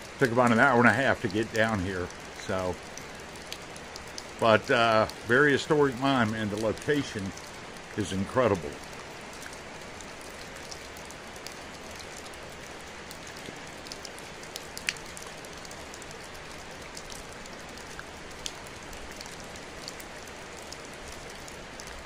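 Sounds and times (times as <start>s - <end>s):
steady hiss: 0.0s - 21.2s
water dripping: 0.0s - 22.0s.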